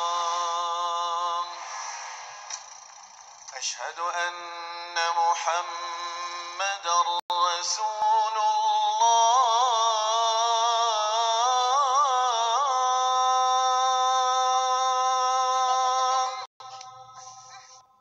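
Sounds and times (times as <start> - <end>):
high voice singing call to prayer: 0.0 - 1.7, 3.5 - 18.0.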